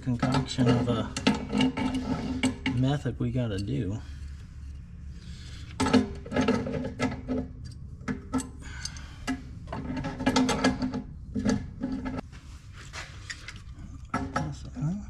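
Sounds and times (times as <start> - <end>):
tools clicking and scraping on metal: 0.0 - 12.2.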